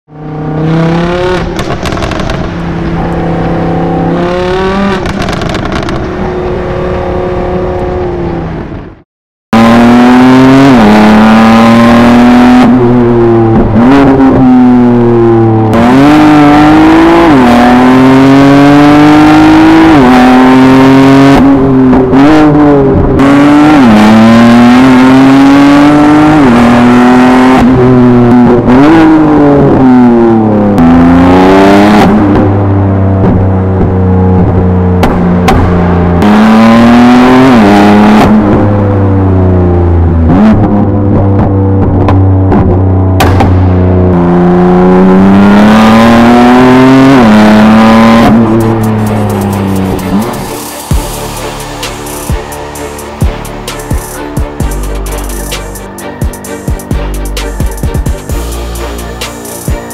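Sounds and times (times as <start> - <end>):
car engine accelerating and shifting: 0.1 - 9.0, 9.6 - 59.9.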